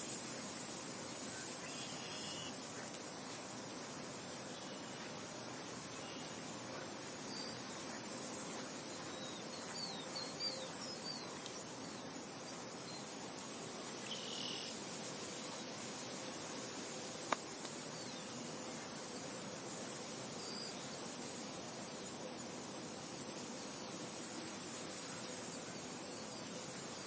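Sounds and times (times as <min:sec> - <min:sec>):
wind rushing hiss: 0:00.0 - 0:27.0.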